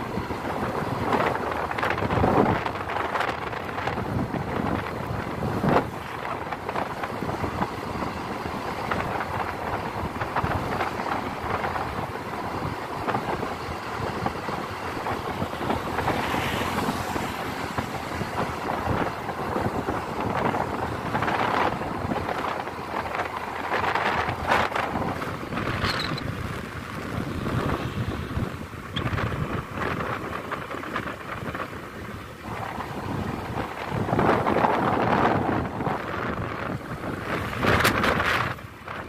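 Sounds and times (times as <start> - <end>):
motorbike riding noise: 0.0 - 39.0
wind rushing over microphone: 0.0 - 39.0.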